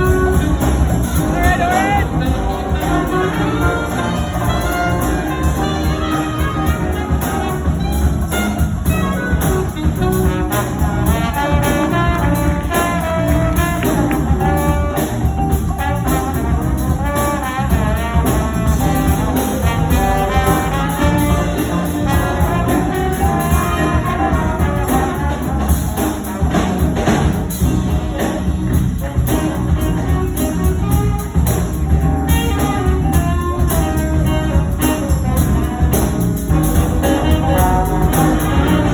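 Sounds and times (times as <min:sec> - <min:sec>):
big band brass section: 0:00.0 - 0:38.9
drum and bass groove: 0:00.0 - 0:38.9.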